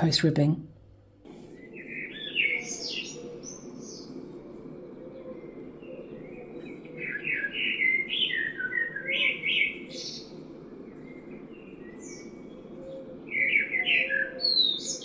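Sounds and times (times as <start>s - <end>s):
songbird chirping: 0.0s - 15.0s
steady low background noise: 0.0s - 15.0s.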